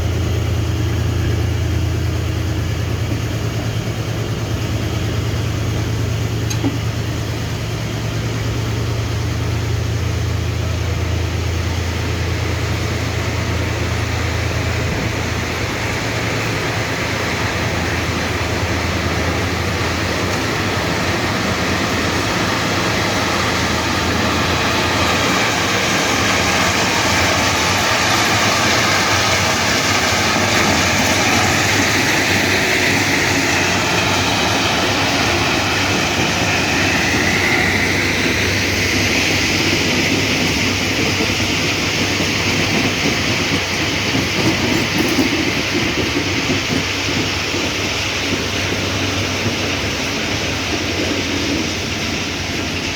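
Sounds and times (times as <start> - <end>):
diesel locomotive engine drone: 0.0 - 52.9
train wheels on rails: 0.0 - 52.9.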